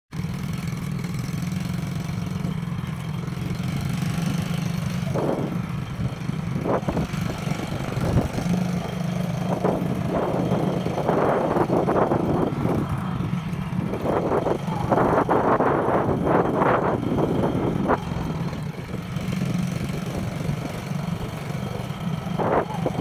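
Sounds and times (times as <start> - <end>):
small engine idling: 0.1 - 23.0
wind noise on microphone: 4.5 - 23.0.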